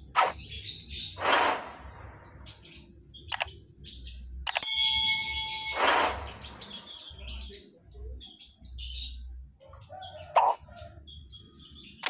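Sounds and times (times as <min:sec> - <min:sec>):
bird twittering high chirps: 0:00.0 - 0:12.0.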